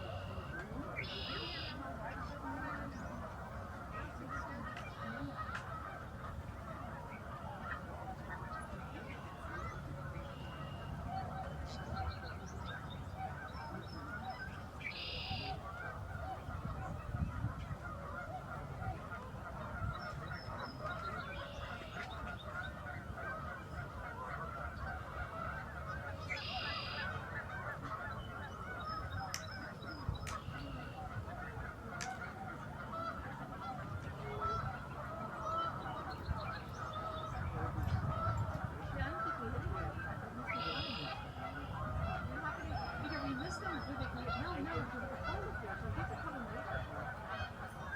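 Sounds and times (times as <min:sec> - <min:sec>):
flock of geese honking: 0:00.0 - 0:47.9
higher goose calls: 0:00.0 - 0:47.9.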